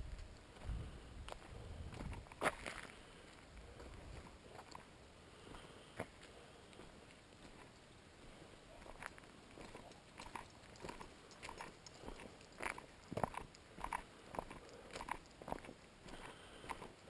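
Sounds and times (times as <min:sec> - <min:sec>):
footsteps crunching: 0:00.0 - 0:17.0.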